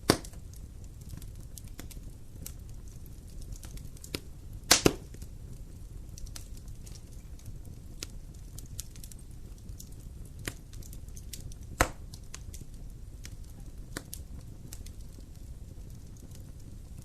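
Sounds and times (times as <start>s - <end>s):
fire crackling and popping: 0.0s - 17.0s
low rumble of flame: 0.0s - 17.0s.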